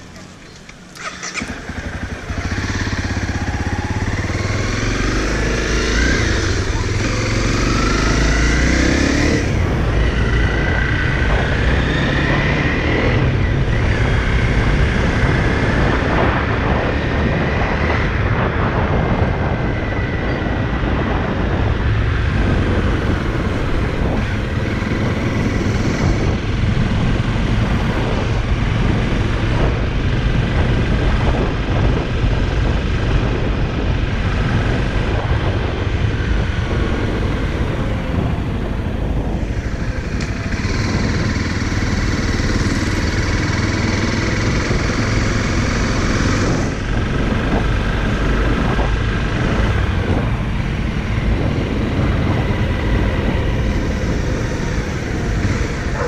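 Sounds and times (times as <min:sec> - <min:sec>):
motorcycle running: 0:00.0 - 0:56.0
wind over microphone: 0:00.0 - 0:56.0.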